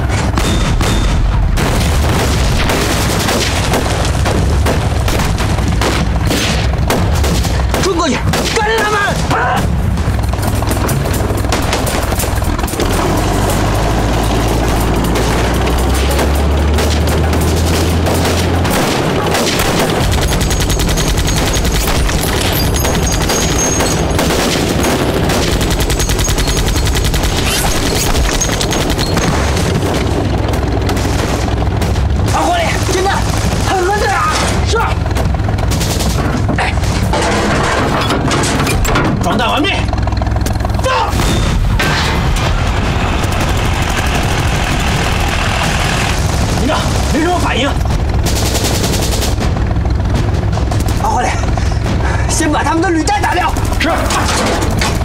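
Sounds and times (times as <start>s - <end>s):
explosions: 0.0s - 36.2s, 41.1s - 52.2s
gunfire: 0.0s - 37.2s, 41.1s - 52.2s
deep rumble: 0.0s - 55.0s.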